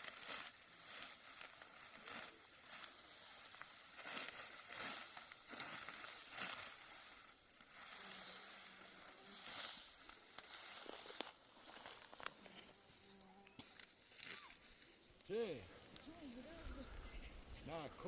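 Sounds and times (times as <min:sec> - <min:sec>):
dry wheat stalks rustling: 0:00.0 - 0:17.9.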